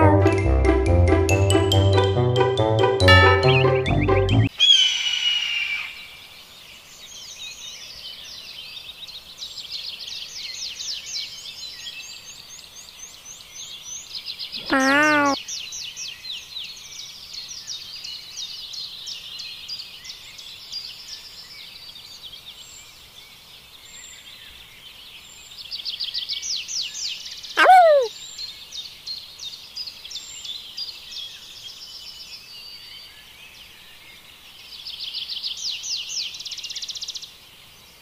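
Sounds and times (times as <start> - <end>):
small birds chirping: 5.7 - 38.0.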